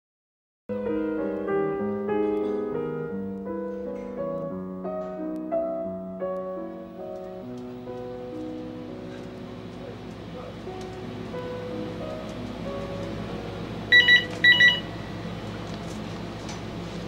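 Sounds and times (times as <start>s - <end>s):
piano music: 0.7s - 17.0s.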